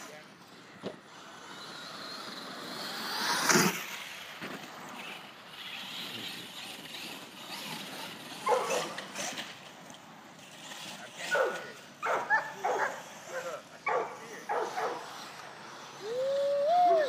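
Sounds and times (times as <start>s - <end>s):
rc truck motor whine: 0.0s - 11.6s, 14.2s - 17.0s.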